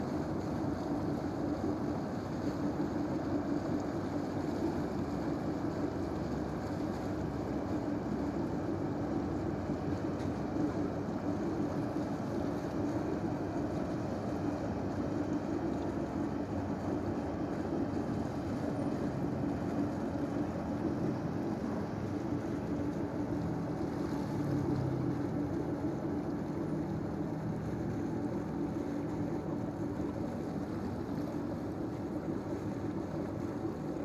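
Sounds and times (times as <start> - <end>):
ship engines droning: 5.8 - 34.0.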